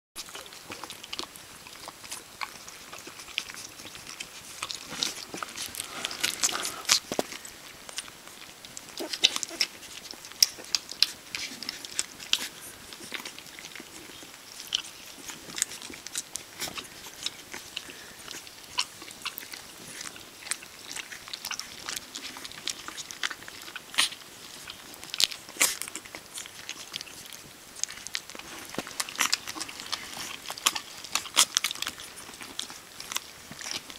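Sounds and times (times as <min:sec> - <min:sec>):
puppy eating wet smacking: 0:00.2 - 0:33.9.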